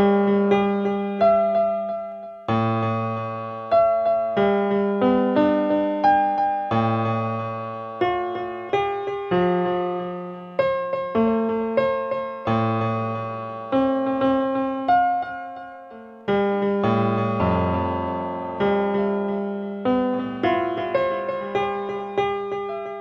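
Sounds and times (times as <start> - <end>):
slow piano keyboard music: 0.0 - 23.0.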